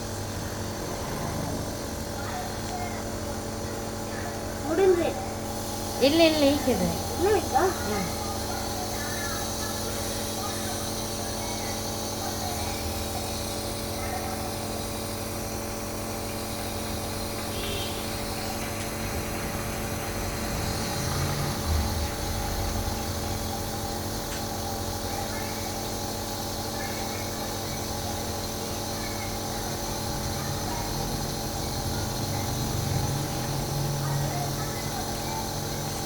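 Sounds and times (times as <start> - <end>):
nebulizer motor pump humming: 0.0 - 36.0.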